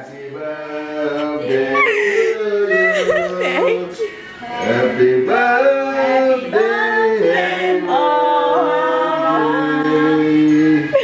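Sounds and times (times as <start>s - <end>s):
group singing a celebration song: 0.0s - 11.0s.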